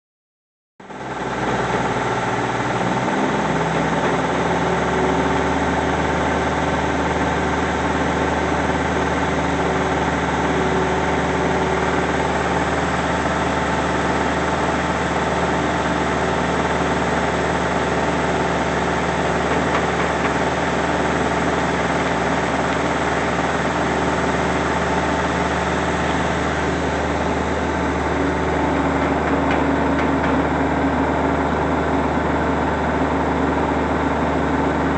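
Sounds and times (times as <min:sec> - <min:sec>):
engine idling: 0:00.8 - 0:34.9.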